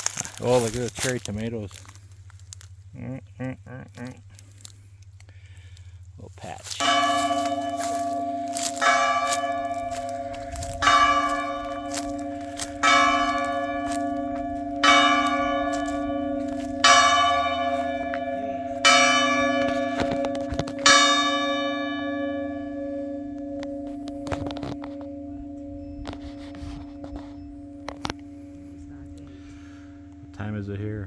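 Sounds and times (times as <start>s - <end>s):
church bell striking: 0.0s - 1.8s, 6.4s - 31.0s.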